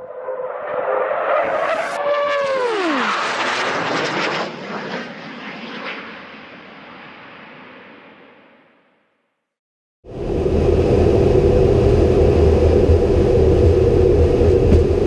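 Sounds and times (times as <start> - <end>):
jet roaring past: 0.0 - 8.7, 10.1 - 15.0.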